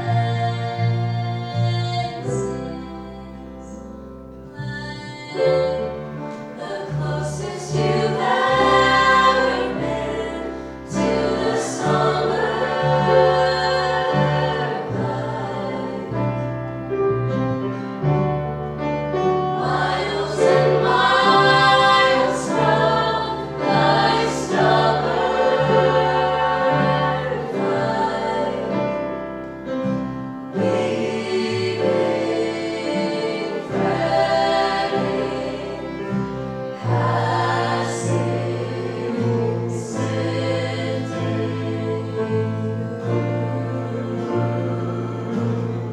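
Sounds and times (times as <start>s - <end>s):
group singing in harmony: 0.0s - 3.8s, 4.4s - 17.8s, 19.1s - 45.9s
instrumental accompaniment: 0.0s - 45.9s.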